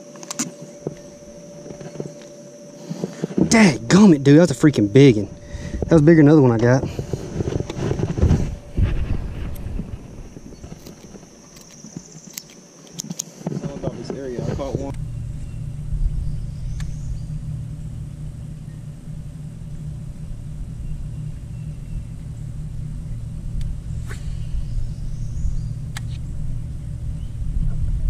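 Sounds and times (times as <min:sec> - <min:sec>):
steady low rumble: 0:00.0 - 0:11.9, 0:13.6 - 0:28.0
faint even hum: 0:00.0 - 0:28.0.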